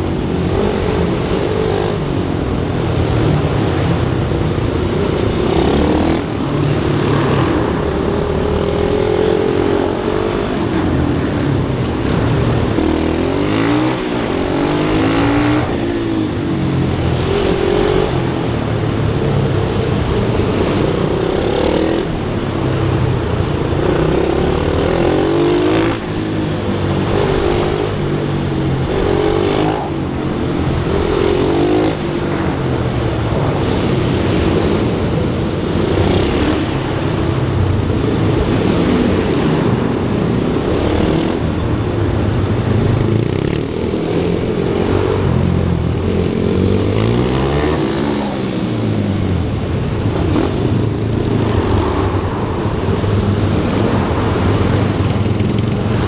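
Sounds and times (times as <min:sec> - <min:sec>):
pit bike engine revving: 0:00.0 - 0:56.0.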